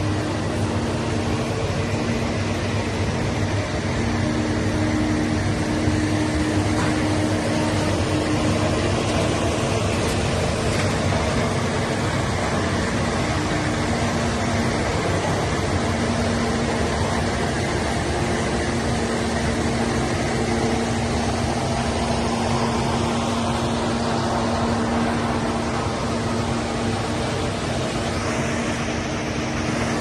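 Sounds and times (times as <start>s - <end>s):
heavy diesel truck engine drone: 0.0s - 30.0s.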